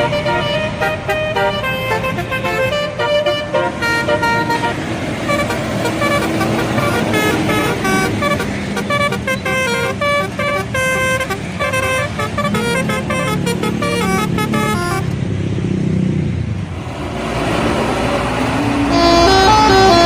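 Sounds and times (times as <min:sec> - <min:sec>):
bus horn playing a tune: 0:00.0 - 0:15.2, 0:18.8 - 0:20.0
bus engine rumble: 0:00.0 - 0:20.0
traffic: 0:00.0 - 0:20.0.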